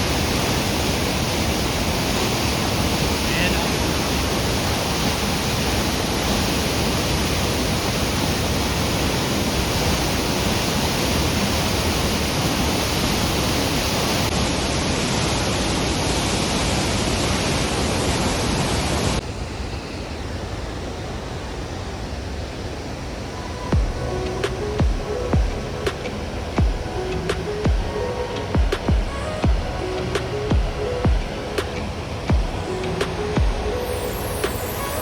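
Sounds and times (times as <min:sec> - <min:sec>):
waterfall rushing: 0:00.0 - 0:19.7, 0:20.5 - 0:35.0.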